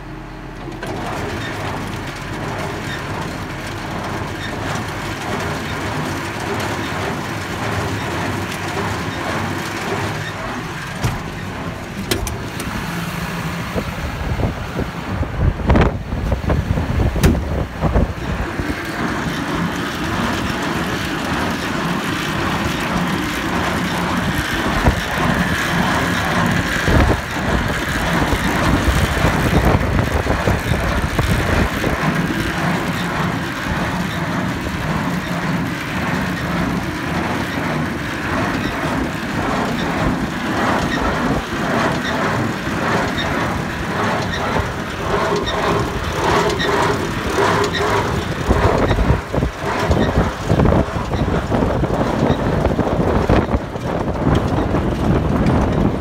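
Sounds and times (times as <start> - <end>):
baler rhythmic mechanical clatter: 0.0 - 56.0
tractor engine drone: 0.0 - 56.0
heavy mechanical knocks: 0.7 - 56.0.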